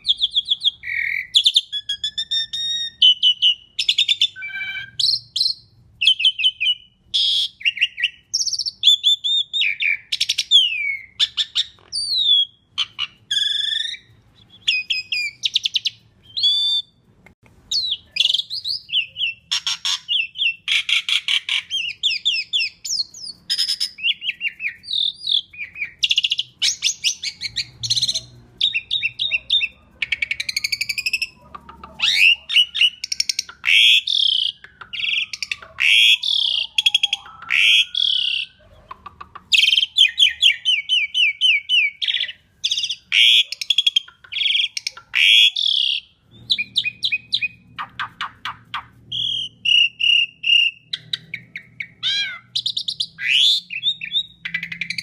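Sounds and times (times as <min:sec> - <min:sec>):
starling singing varied whistles: 0:00.0 - 0:17.0, 0:17.7 - 0:31.4, 0:32.0 - 0:38.6, 0:39.5 - 0:55.0.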